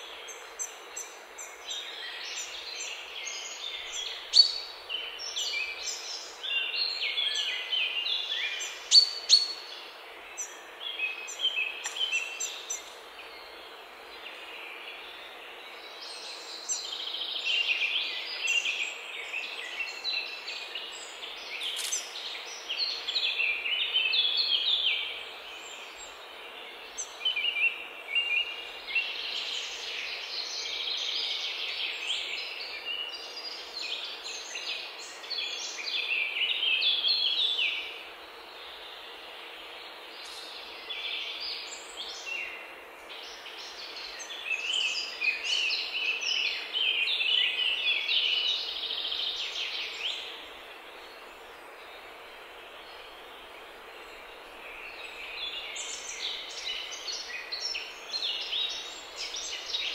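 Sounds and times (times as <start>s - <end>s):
songbirds chirping and trilling: 0.0s - 59.9s
steady background hiss: 0.0s - 59.9s.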